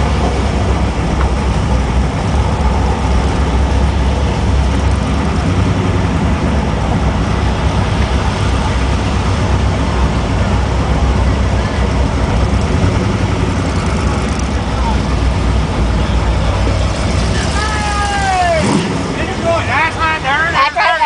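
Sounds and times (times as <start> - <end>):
car engine rumbling: 0.0 - 21.0
road and wind noise: 0.0 - 21.0.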